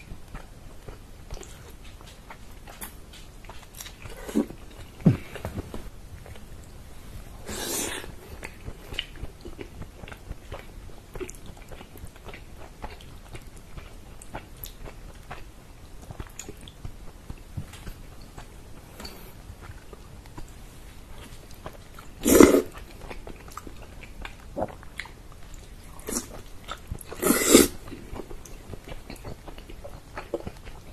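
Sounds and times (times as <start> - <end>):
chewing and wet mouth sounds: 0.0 - 6.8, 7.4 - 30.9.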